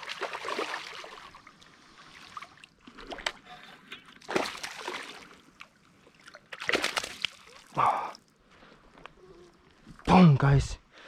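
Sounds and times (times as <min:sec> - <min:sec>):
water splashing and sloshing: 0:00.0 - 0:10.1.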